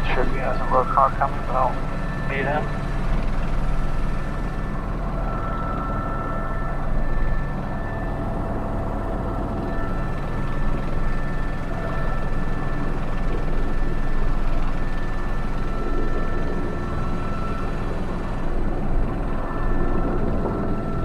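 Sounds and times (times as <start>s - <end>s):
helicopter rotor and engine rumble: 0.0s - 21.0s
helicopter turbine whine: 0.0s - 21.0s.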